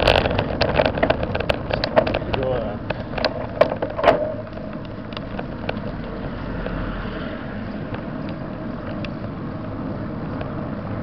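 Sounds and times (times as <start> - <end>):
light clicks and rattles: 0.0 - 6.8, 7.6 - 10.6
bicycle tyres rolling on road: 0.0 - 11.0.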